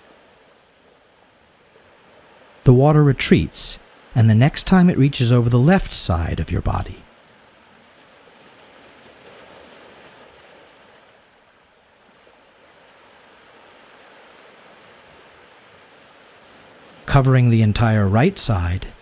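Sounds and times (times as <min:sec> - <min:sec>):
ocean surf washing: 0:00.0 - 0:19.0.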